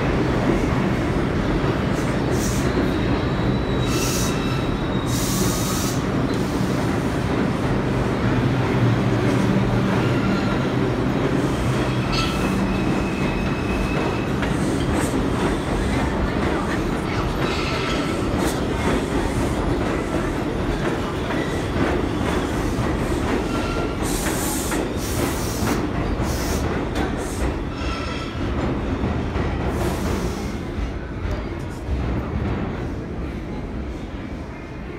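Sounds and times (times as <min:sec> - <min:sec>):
subway train rumbling: 0:00.0 - 0:34.9.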